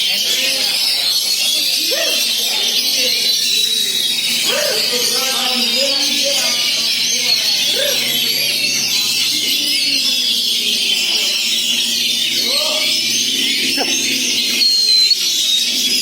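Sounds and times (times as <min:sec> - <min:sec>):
chorus of songbirds singing: 0:00.0 - 0:16.0
people's voices calling: 0:00.0 - 0:16.0.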